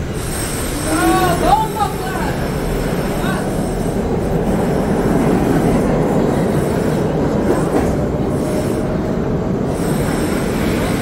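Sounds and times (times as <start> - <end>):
subway train wheels rumbling on track: 0.0 - 11.0.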